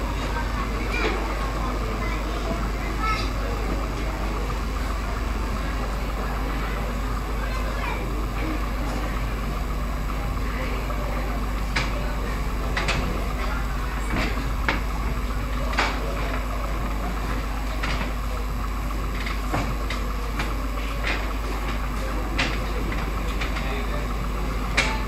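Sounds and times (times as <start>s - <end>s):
room noise hum: 0.0s - 25.0s.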